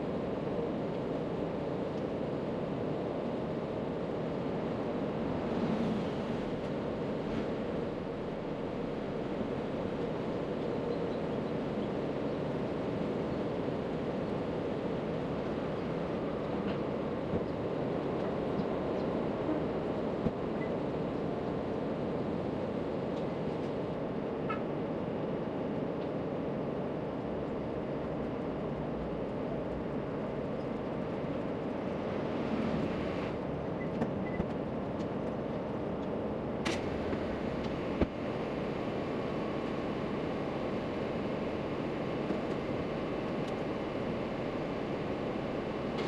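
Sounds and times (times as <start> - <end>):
outdoor background rush: 0.0 - 46.0.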